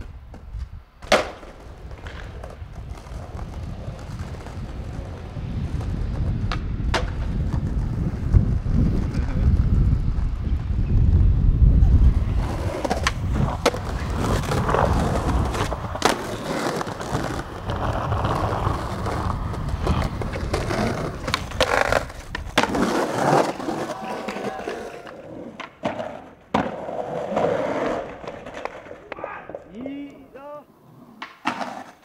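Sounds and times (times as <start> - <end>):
skateboard clacks: 0.0 - 10.7, 12.1 - 30.2, 31.1 - 32.0
skateboard wheels rolling on stone: 0.0 - 32.0.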